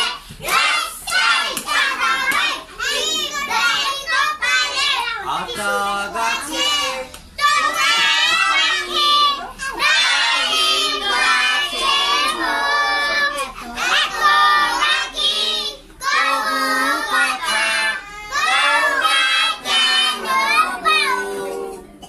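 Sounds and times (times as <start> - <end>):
children singing together: 0.0 - 22.0.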